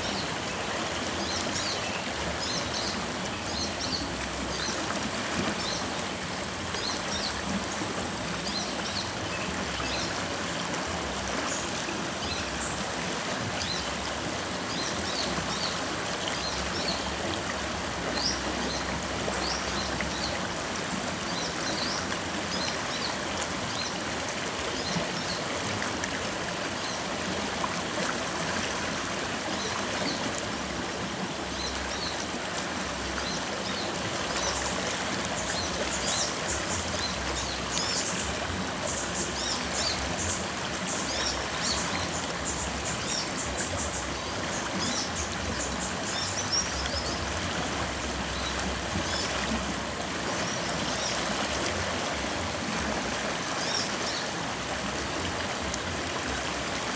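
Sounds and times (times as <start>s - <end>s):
river water over rocks: 0.0s - 56.9s.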